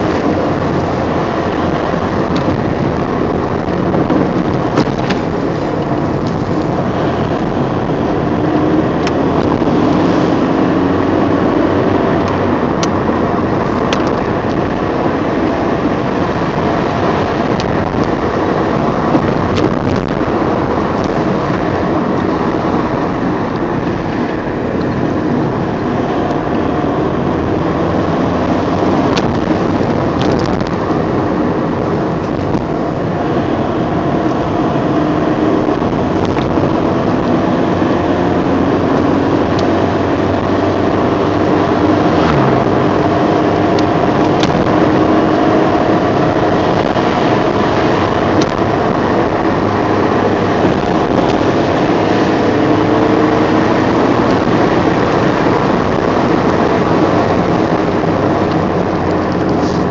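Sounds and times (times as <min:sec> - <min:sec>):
car engine noise: 0:00.0 - 0:59.9.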